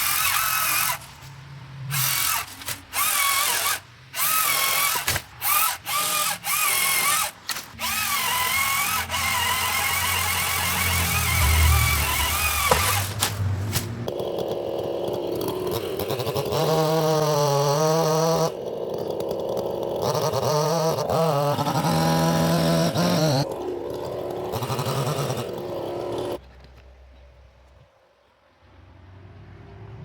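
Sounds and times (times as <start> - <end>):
chainsaw cutting: 0.0 - 26.4.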